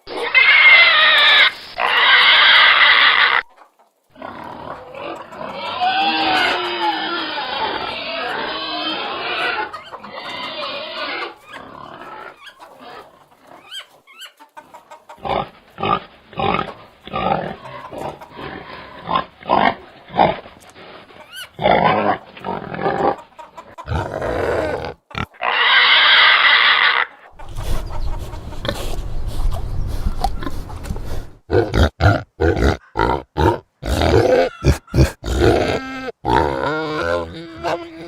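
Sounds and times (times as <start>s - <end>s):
pigs grunting: 4.1s - 13.8s, 15.2s - 38.0s.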